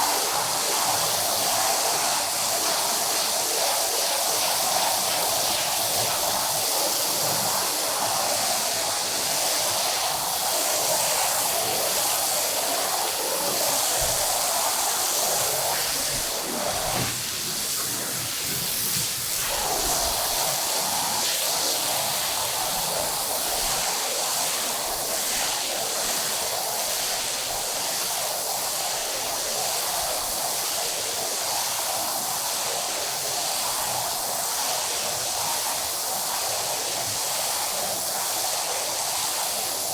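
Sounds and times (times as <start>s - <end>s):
hissing rush of water: 0.0s - 39.9s.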